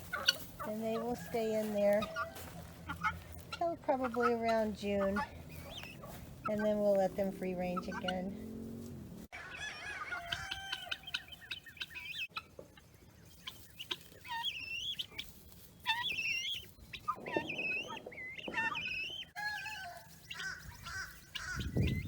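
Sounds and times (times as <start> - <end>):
guinea fowl calling: 0.0 - 6.8, 7.7 - 22.0.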